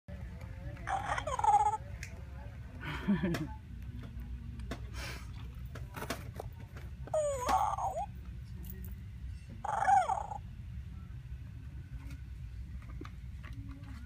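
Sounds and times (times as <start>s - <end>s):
steady low hum: 0.1s - 14.0s.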